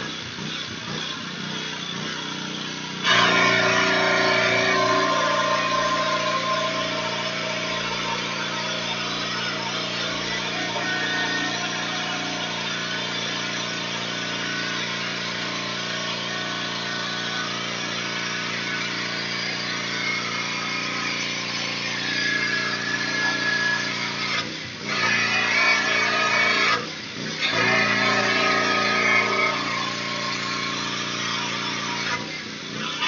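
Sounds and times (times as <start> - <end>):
pressure washer engine drone: 0.0 - 33.0.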